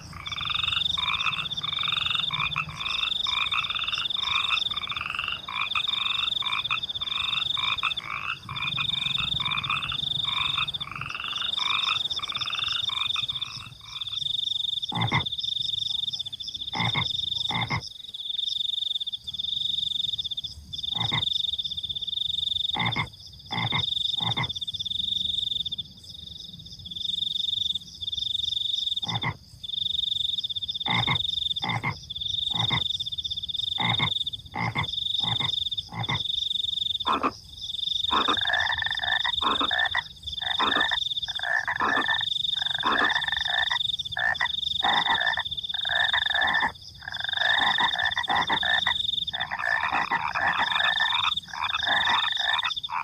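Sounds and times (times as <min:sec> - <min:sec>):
rough frog call: 0:00.0 - 0:16.0, 0:16.6 - 0:17.9, 0:20.9 - 0:21.4, 0:22.0 - 0:24.6, 0:29.0 - 0:29.4, 0:30.7 - 0:53.0
crickets trilling: 0:00.0 - 0:53.0
frogs croaking: 0:00.0 - 0:53.0.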